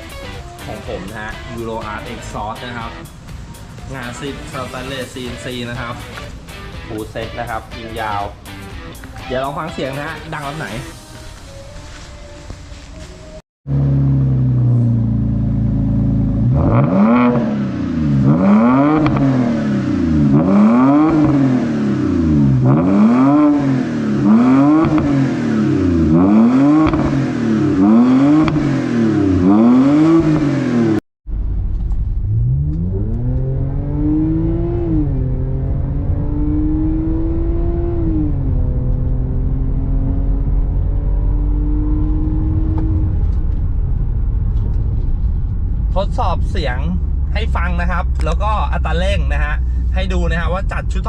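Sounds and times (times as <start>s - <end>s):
car engine idling and revving: 0.0s - 11.6s, 13.0s - 51.0s.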